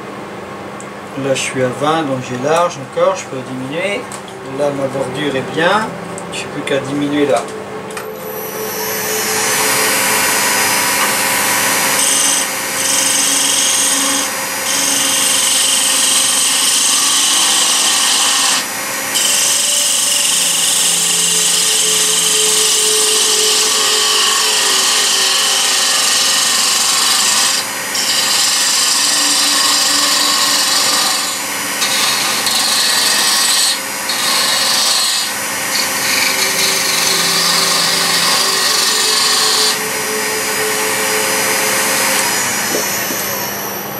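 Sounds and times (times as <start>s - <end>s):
wood lathe humming: 1.2s - 43.9s.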